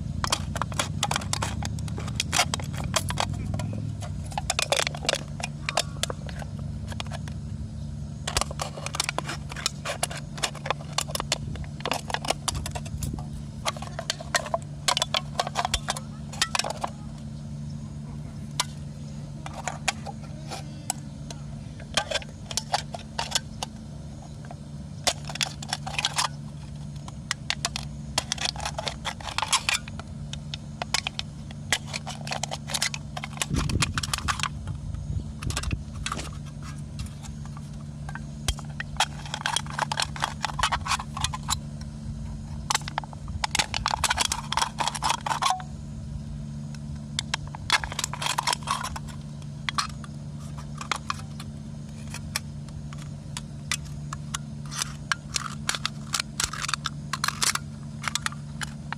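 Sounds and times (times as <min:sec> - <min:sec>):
small objects clinking and scraping: 0:00.0 - 0:07.5, 0:08.2 - 0:17.2, 0:18.1 - 0:45.9, 0:46.6 - 0:58.9
low hum: 0:00.0 - 0:58.9.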